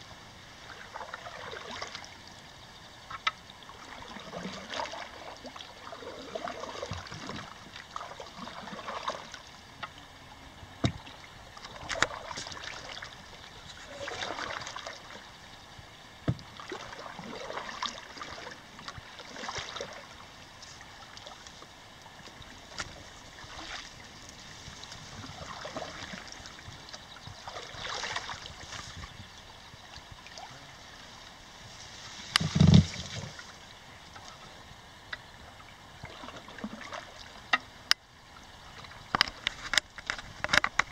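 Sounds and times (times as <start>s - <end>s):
paddle swishing through water: 0.0s - 40.9s.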